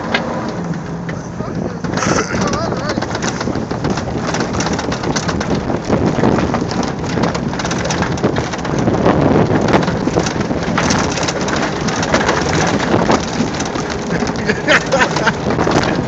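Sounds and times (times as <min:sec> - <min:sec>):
debris crackling against hull: 0:00.0 - 0:16.0
wind on microphone: 0:00.0 - 0:16.0.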